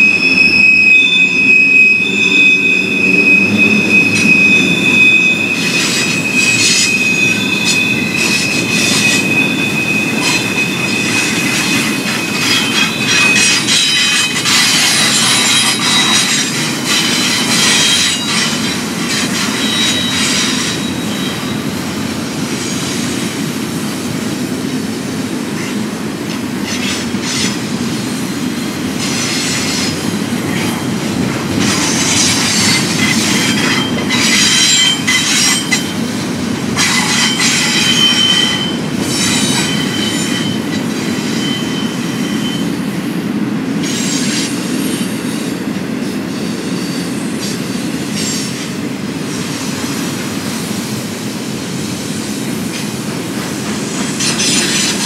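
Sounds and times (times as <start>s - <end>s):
steel wheel squeal: 0.0s - 23.6s, 25.5s - 43.0s, 43.7s - 51.0s, 51.7s - 55.0s
train wheels rumbling on rail: 0.0s - 55.0s.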